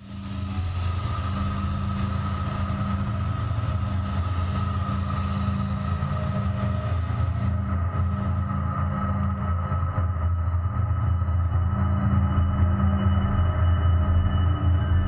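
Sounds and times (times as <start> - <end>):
low ambient drone: 0.0 - 15.0.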